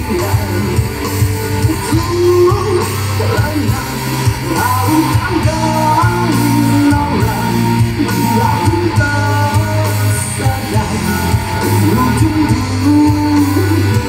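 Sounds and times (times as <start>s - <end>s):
bass line: 0.0s - 14.0s
electric guitar: 0.0s - 14.0s
vocals: 0.0s - 14.0s.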